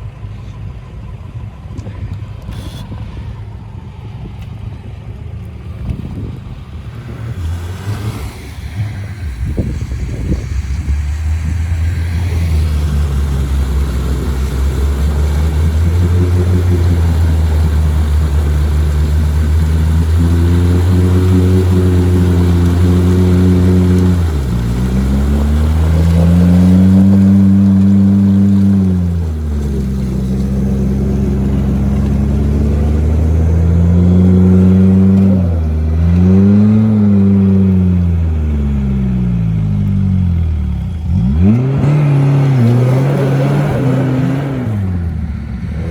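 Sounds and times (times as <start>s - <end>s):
off-road engine revving under load: 5.7s - 45.9s.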